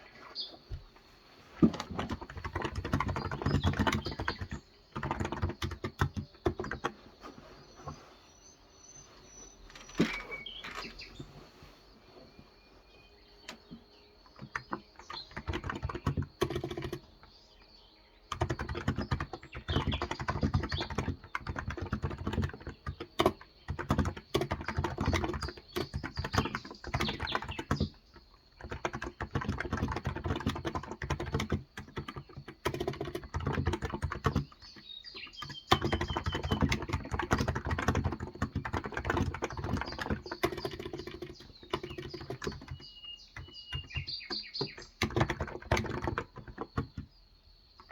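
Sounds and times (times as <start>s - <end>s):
birds chirping faintly: 0.0s - 47.9s
keyboard typing: 1.6s - 7.1s, 13.4s - 17.4s, 18.3s - 47.1s.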